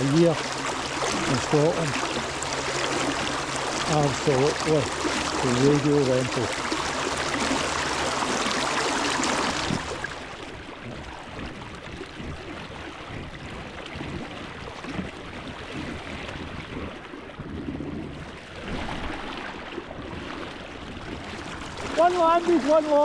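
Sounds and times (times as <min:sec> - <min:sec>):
river water rushing: 0:00.0 - 0:17.3, 0:18.2 - 0:23.0
low uneven rumble: 0:00.0 - 0:23.0.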